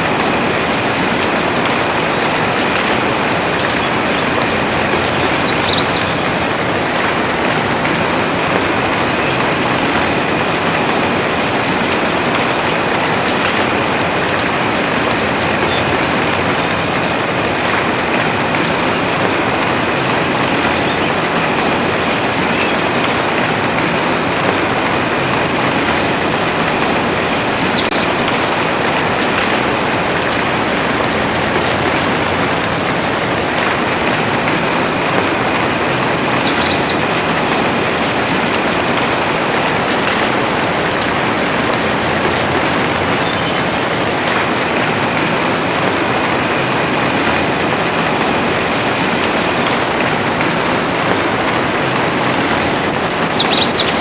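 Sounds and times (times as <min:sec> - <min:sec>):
high-pitched drone: 0:00.0 - 0:45.8
soft rain falling: 0:00.0 - 0:54.0.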